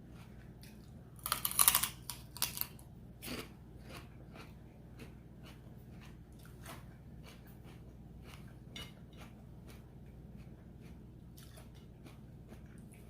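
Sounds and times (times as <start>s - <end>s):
low steady hum: 0.0s - 13.0s
person chewing crunchy vegetables: 0.0s - 13.0s.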